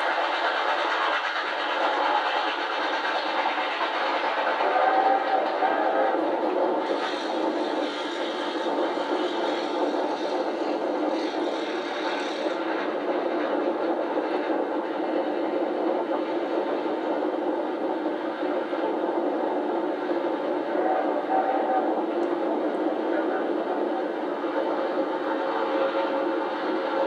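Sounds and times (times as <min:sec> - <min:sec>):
steam trains running: 0:00.0 - 0:27.0.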